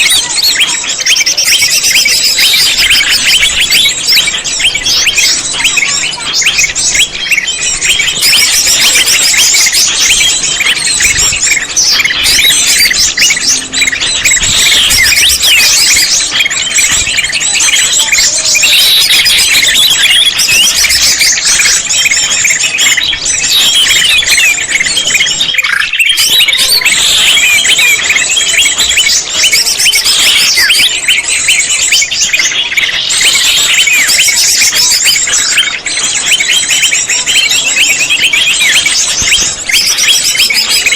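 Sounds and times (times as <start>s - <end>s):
bird chattering chirps and whistles: 0.0s - 40.9s.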